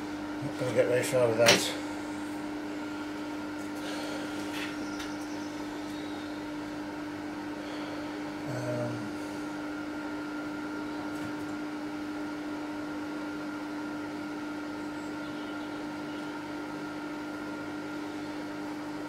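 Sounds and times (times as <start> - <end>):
lathe motor humming: 0.0 - 19.0.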